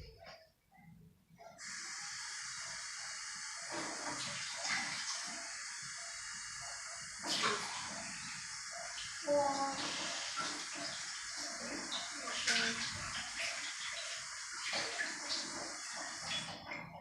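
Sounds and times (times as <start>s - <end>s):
water running from tap: 1.6s - 17.0s.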